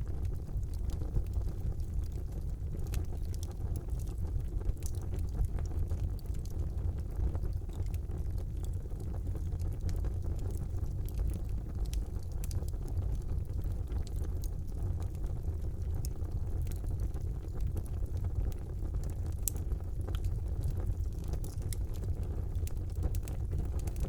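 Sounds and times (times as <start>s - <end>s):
fire crackling in fireplace: 0.0s - 24.0s.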